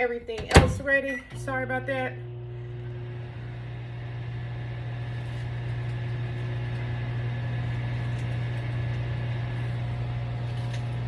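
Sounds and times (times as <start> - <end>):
kitchen appliance motor humming: 1.0 - 11.0.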